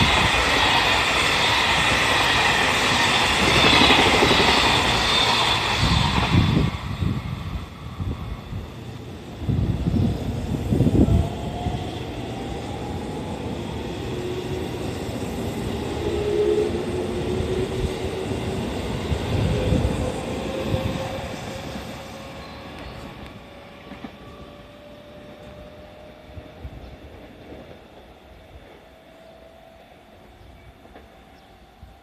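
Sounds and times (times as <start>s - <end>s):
wheels rumbling on rail: 0.0s - 28.8s.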